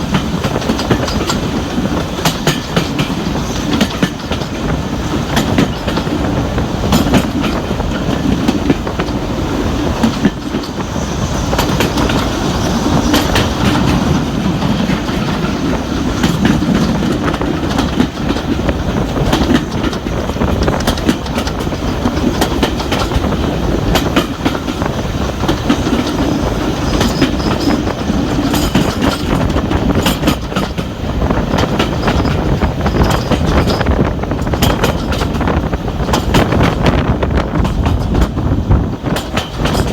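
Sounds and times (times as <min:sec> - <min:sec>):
train rumbling: 0:00.0 - 0:39.9
train wheels clattering over rail joints: 0:00.0 - 0:39.9.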